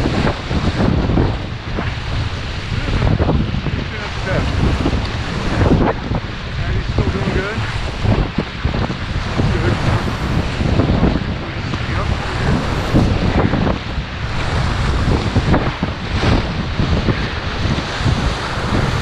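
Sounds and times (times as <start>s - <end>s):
whitewater rushing and splashing: 0.0s - 19.0s
wind buffeting microphone: 0.0s - 19.0s.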